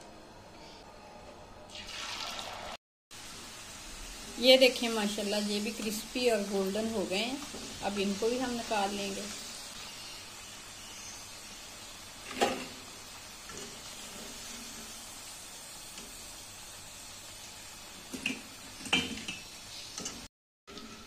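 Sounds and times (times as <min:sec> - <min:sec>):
potato cubes deep-frying in oil: 0:01.7 - 0:21.0.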